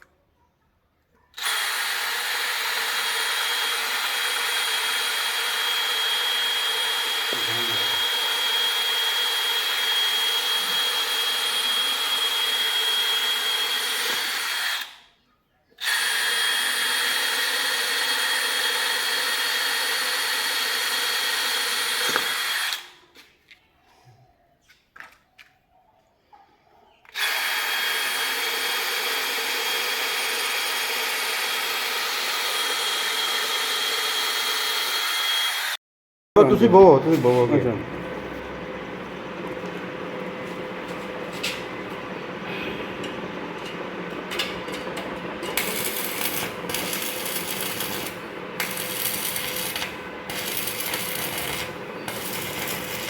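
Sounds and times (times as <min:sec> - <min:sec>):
electric power tool whining: 0:01.4 - 0:15.0, 0:15.8 - 0:22.9, 0:27.1 - 0:35.8, 0:37.1 - 0:53.0.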